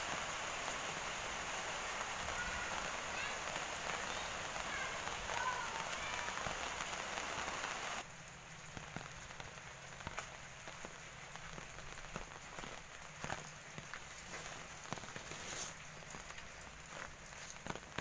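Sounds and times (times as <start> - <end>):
rain on paving and plants: 0.0 - 18.0
water drips: 0.0 - 18.0.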